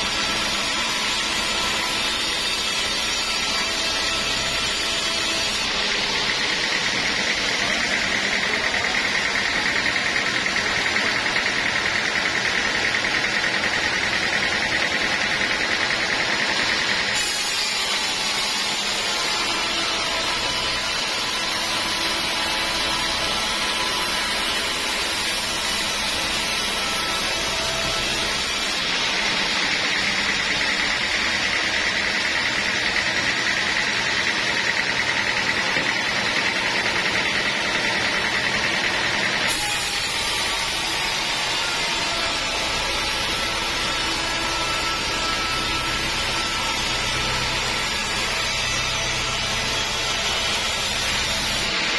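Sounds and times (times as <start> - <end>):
sawmill saw cutting wood: 0.0 - 51.9.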